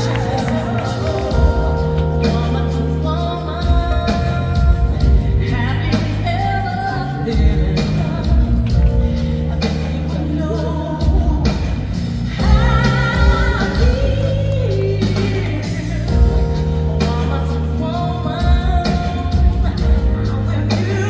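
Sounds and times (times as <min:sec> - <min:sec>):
pop-rock song with vocals: 0:00.0 - 0:21.0.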